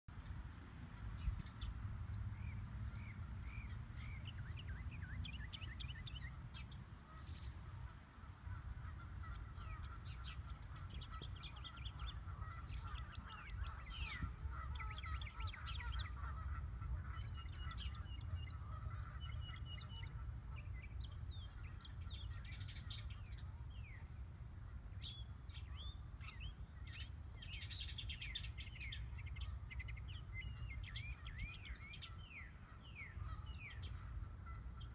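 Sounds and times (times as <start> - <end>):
birds chirping and singing: 1.2 - 34.9.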